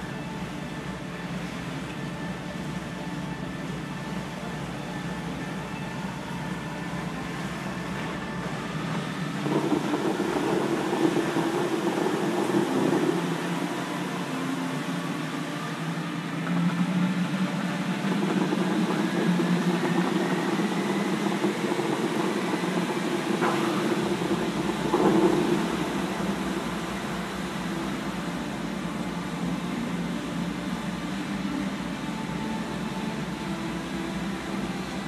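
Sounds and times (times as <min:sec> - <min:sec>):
fountain jets spraying water: 0:00.0 - 0:35.0.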